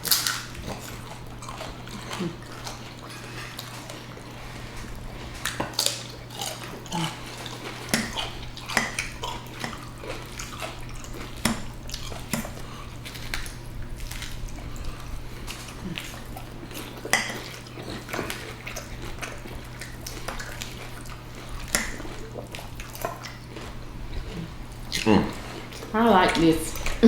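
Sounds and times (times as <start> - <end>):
chewing sounds: 0.0 - 27.0
steady low hum: 0.0 - 27.0.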